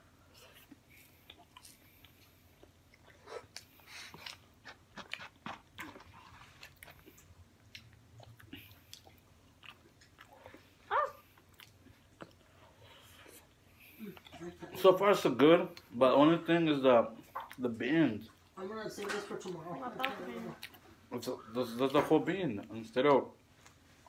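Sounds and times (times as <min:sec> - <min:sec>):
people chewing food: 0:00.0 - 0:16.4, 0:17.0 - 0:22.0.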